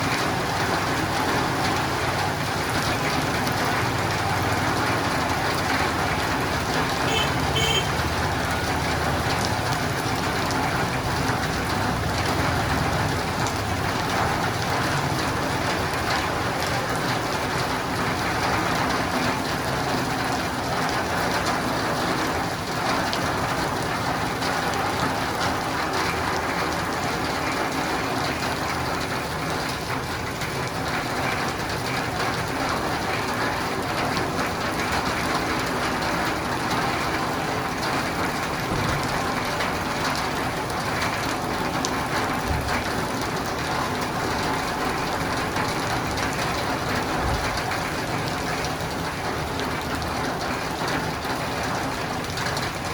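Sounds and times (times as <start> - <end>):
rain on roof and windows: 0.0 - 52.9.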